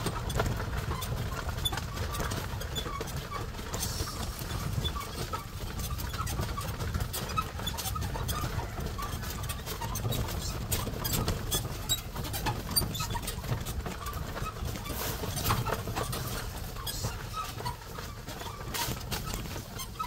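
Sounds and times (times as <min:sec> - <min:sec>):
animal hoof steps: 0:00.0 - 0:20.0
cart clicks and squeaks: 0:00.0 - 0:20.0
low rumble of rolling cart: 0:00.0 - 0:20.0.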